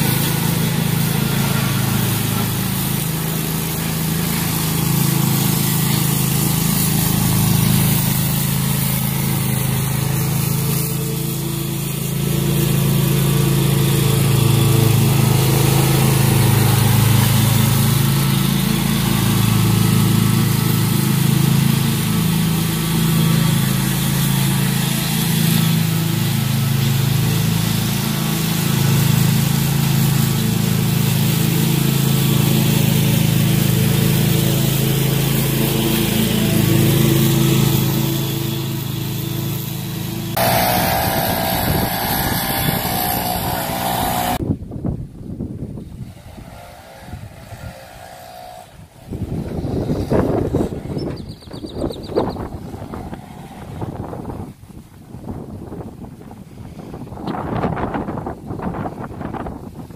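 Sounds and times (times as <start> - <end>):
lawn mower engine running: 0.0 - 44.7, 45.6 - 59.9.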